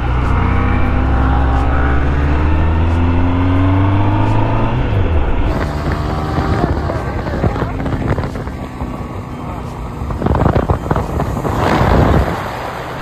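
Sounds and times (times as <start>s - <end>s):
motorcycle engine accelerating: 0.0s - 13.0s
wind rush on microphone: 0.0s - 13.0s.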